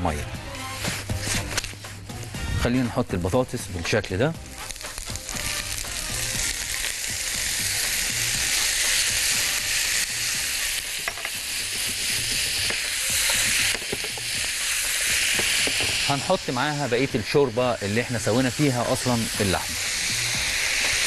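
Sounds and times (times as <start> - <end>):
food sizzling in a hot pan: 0.6 - 2.6, 3.6 - 21.0.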